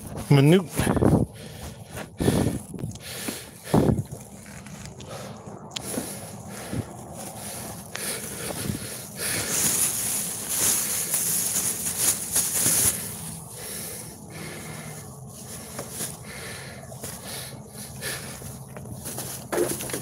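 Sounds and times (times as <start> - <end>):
plastic bag rustling: 3.6 - 20.0.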